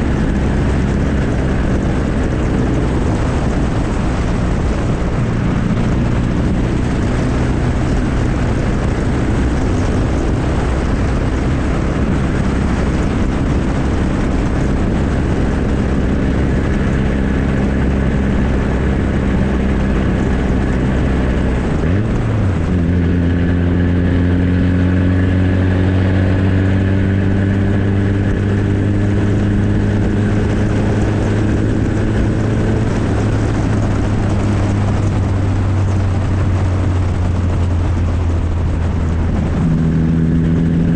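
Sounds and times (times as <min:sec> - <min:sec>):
engine running through loud exhaust: 0:00.0 - 0:40.9.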